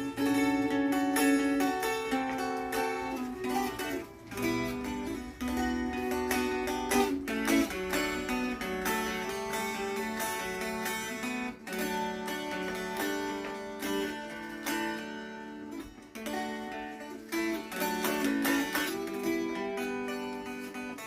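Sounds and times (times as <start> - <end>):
dulcimer melody with drone: 0.0 - 21.0.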